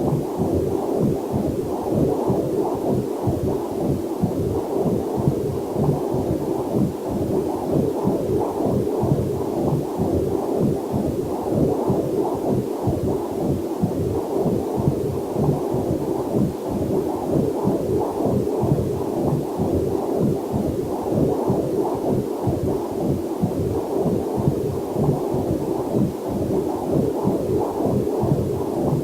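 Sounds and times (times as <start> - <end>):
fetal heartbeat whooshing pulses: 0.0 - 29.0.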